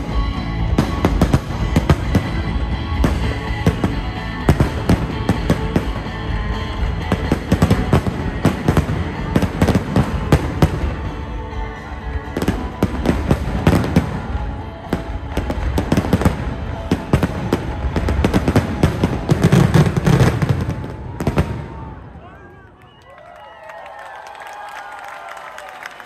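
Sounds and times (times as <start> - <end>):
fireworks bangs and crackling: 0.0 - 22.2
music playing: 0.0 - 22.7.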